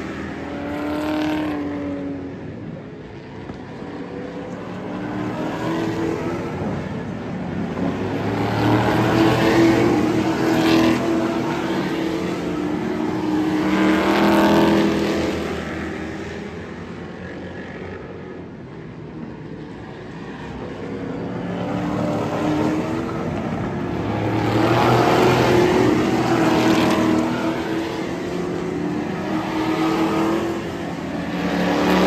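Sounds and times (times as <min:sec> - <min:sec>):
race car engines passing: 0:00.0 - 0:32.0.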